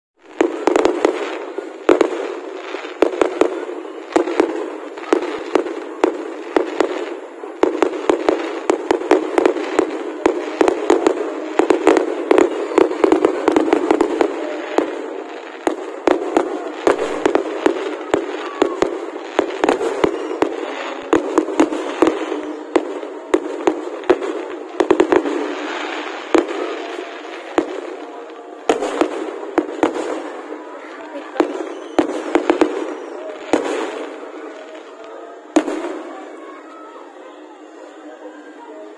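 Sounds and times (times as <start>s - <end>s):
fireworks bangs and crackling: 0.2s - 38.9s.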